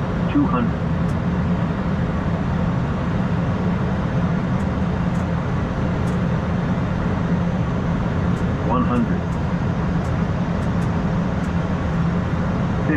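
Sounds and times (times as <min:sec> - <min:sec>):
rush of air and engine hum: 0:00.0 - 0:12.9.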